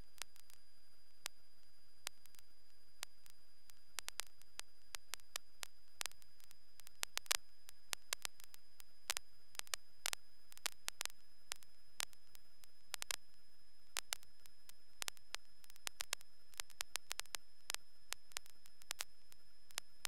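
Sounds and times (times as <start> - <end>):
radio hiss: 0.0 - 20.0
sharp clicks: 2.1 - 19.9.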